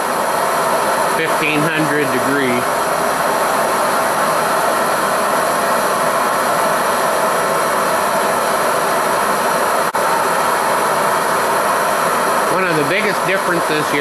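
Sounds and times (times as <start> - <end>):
torch flame rushing: 0.0 - 14.0.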